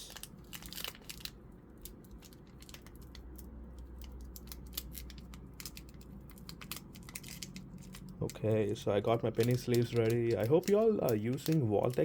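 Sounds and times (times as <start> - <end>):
trading cards handled: 0.0 - 12.0.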